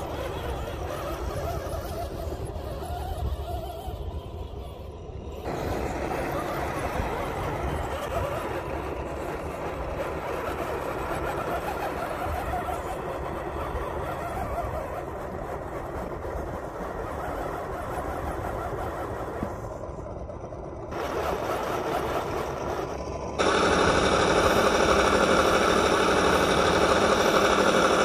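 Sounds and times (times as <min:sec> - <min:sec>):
simulated engine through speaker: 0:00.0 - 0:28.0.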